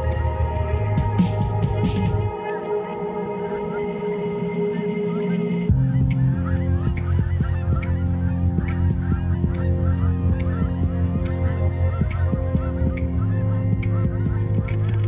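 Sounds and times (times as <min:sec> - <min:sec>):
electronic music with beat: 0:00.0 - 0:15.0
geese honking in flight: 0:00.0 - 0:15.0.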